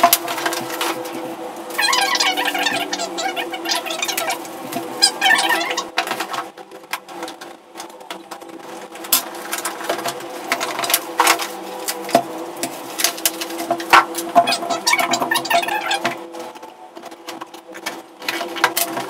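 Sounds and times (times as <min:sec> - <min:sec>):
plastic wrapping rustling: 0:00.0 - 0:19.0.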